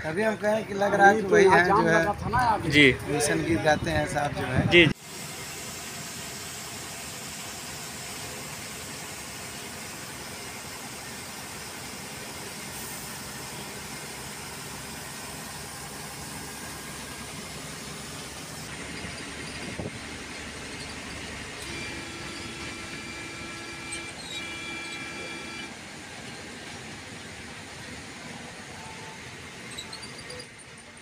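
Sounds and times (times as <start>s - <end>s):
bus engine and road noise: 0.0s - 31.0s.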